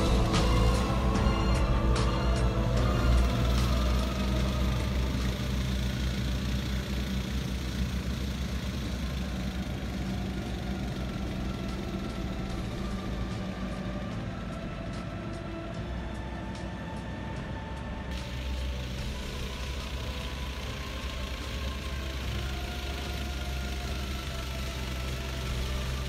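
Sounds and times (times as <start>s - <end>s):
diesel engine running: 0.0s - 26.0s
distant heavy equipment running: 0.0s - 26.0s.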